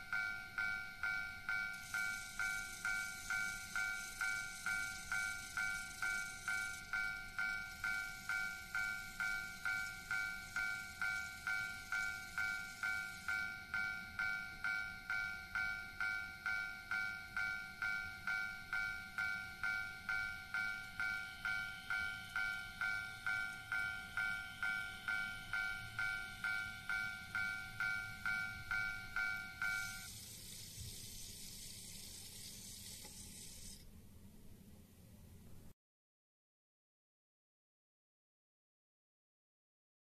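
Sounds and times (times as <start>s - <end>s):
level-crossing warning bell ringing: 0.0s - 33.7s
even hiss: 0.0s - 34.2s.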